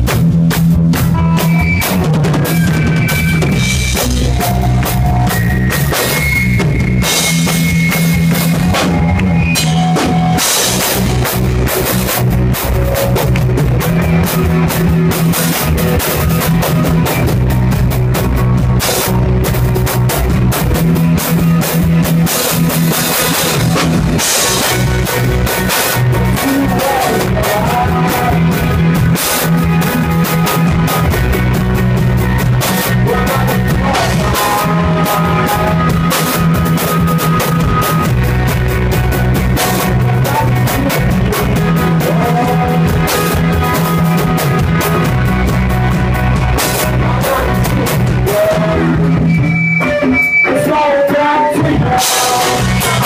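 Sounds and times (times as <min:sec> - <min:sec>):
drum kit pounding: 0:00.0 - 0:53.0
live rock band playing: 0:00.0 - 0:53.0.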